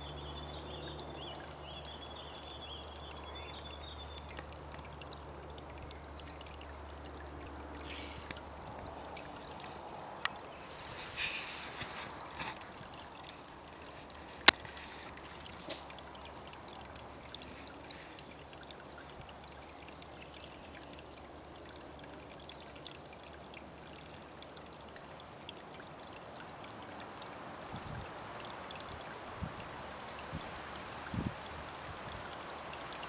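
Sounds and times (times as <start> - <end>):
faint scattered ticks: 1.2 - 31.1.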